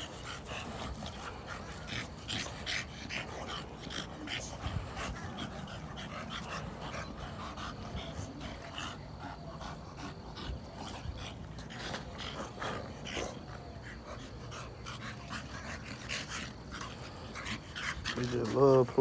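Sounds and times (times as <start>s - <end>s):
dogs panting: 0.0s - 19.0s.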